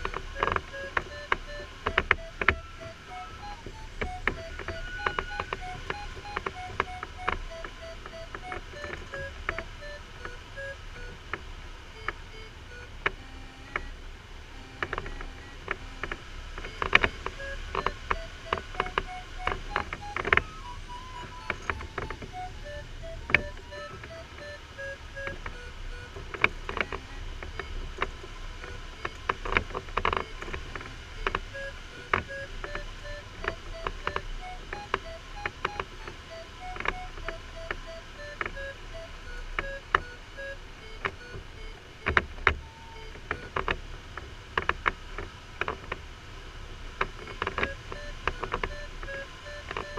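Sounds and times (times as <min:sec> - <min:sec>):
variometer beeping: 0:00.0 - 0:43.8, 0:47.0 - 0:49.9.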